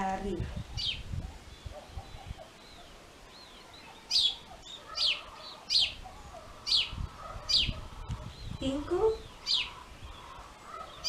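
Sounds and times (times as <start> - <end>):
small bird chirping: 0.5 - 11.0.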